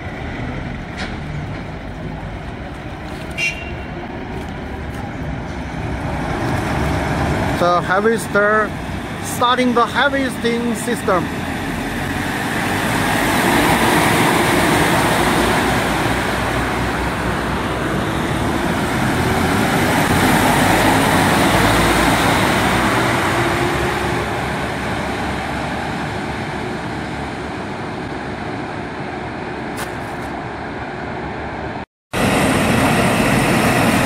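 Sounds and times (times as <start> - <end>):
harvester engine and machinery din: 0.0 - 26.0, 26.9 - 34.0.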